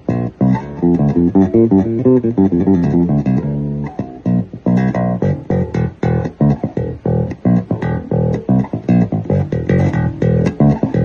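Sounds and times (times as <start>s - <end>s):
electric bass plucked notes: 0.0s - 11.0s.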